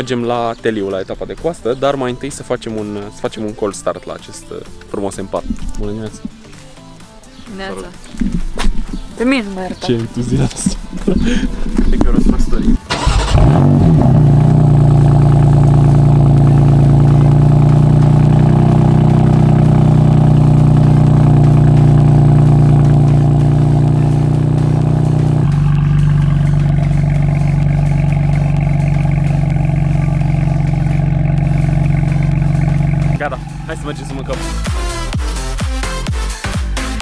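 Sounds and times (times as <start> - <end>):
car engine idling: 4.6 - 36.1.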